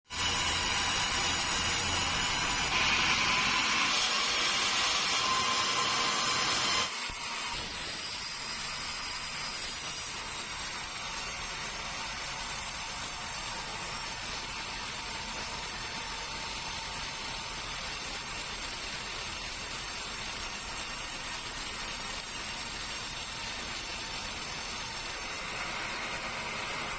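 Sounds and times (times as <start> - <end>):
saw blade cutting wood: 0.1 - 26.9.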